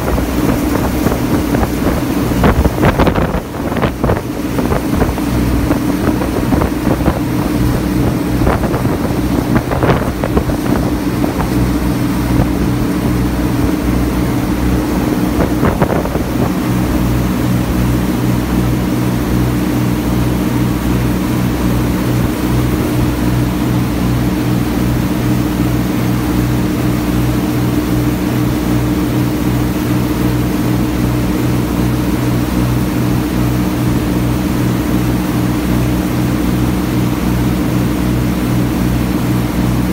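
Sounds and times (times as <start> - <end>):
boat engine running: 0.0 - 39.9
rush of churning wake: 0.0 - 39.9
wind: 0.0 - 39.9.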